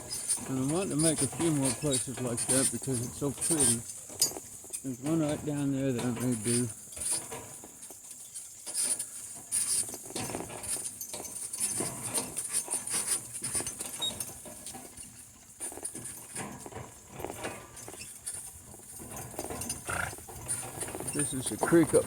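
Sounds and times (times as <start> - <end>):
cart and harness rattling: 0.0 - 22.0.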